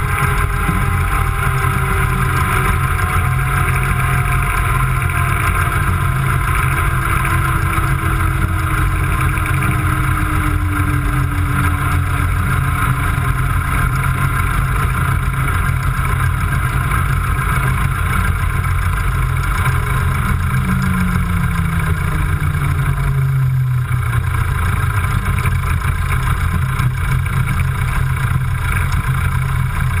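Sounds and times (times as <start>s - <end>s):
propeller plane engine droning: 0.0s - 30.0s.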